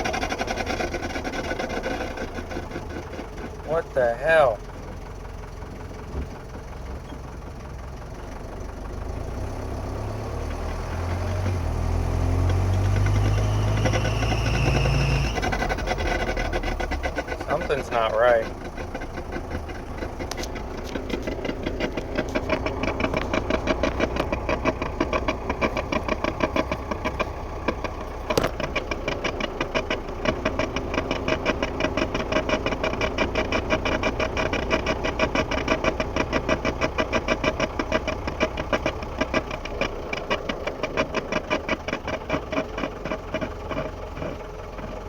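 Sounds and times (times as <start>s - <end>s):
car running: 0.0s - 45.0s.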